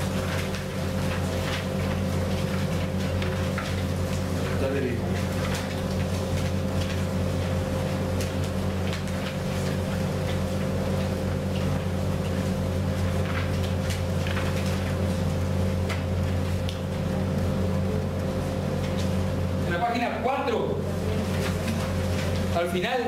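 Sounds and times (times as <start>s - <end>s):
paper pages rustling: 0.0s - 17.6s, 18.2s - 23.0s
low mechanical hum: 0.0s - 23.0s.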